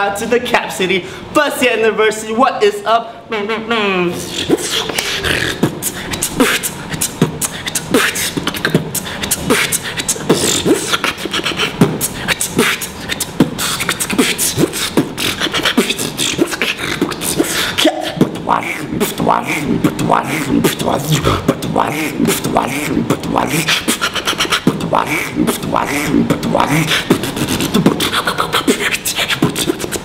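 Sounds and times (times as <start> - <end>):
man beatboxing: 0.0 - 30.0.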